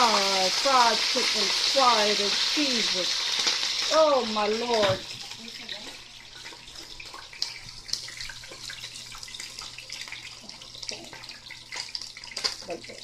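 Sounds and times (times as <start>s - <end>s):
chicken frying in oil: 0.0s - 13.0s
oil pops and crackles: 0.0s - 13.0s.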